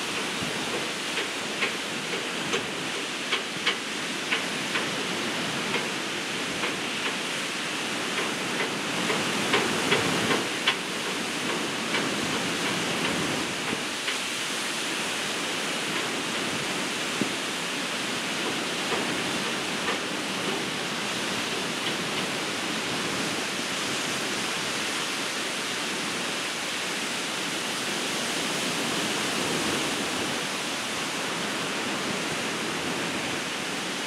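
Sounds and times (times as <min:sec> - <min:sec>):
ocean surf breaking on beach: 0:00.0 - 0:34.0.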